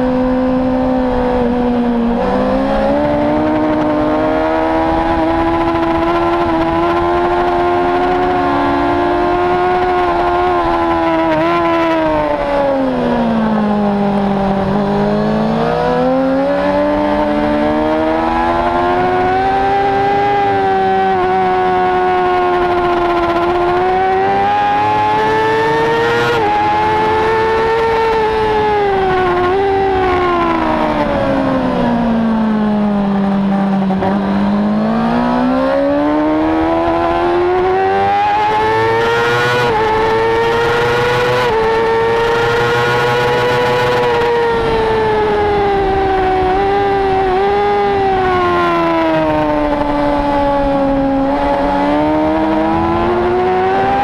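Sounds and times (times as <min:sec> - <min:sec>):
racing motorcycle engine: 0:00.0 - 0:54.0.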